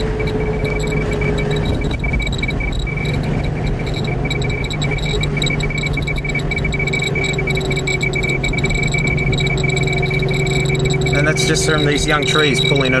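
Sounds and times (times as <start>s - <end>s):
car driving drone: 0.0s - 13.0s
dosimeter beeping rapidly: 0.0s - 13.0s.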